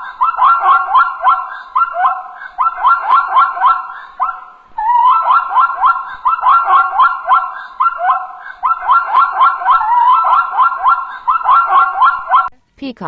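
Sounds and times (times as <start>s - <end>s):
zebra yelping barks: 0.0s - 12.5s.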